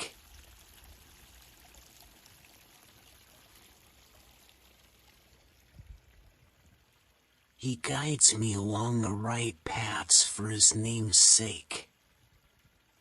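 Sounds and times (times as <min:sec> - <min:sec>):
babbling water running: 0:00.0 - 0:06.1, 0:07.5 - 0:12.0.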